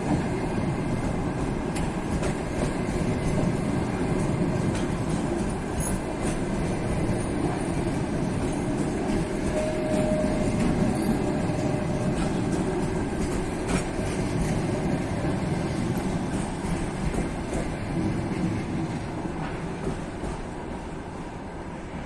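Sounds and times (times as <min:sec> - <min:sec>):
train wheels clattering over rail joints: 0:00.0 - 0:20.9.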